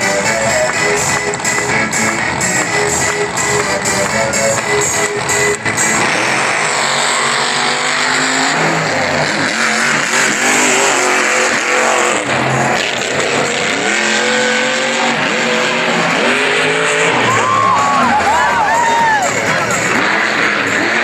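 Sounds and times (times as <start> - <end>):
monster truck engines revving: 0.0 - 21.0.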